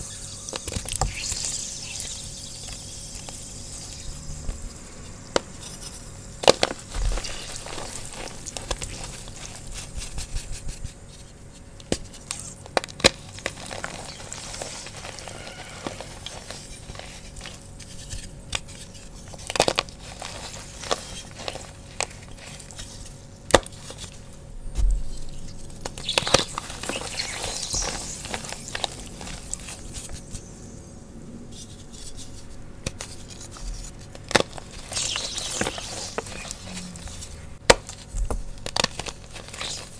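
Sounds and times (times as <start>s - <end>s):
chalk crumbling: 0.0s - 24.4s, 25.1s - 30.6s, 31.5s - 39.9s.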